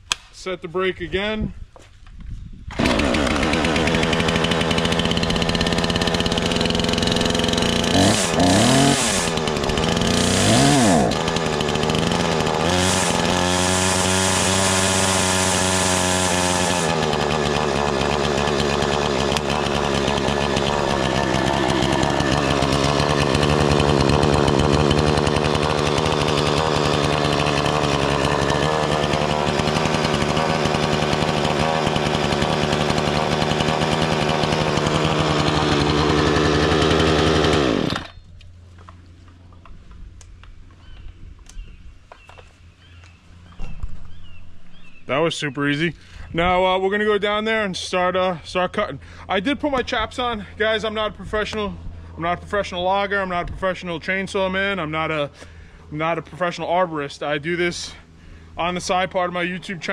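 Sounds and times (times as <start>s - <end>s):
chainsaw engine running: 2.7s - 39.7s, 45.9s - 59.9s.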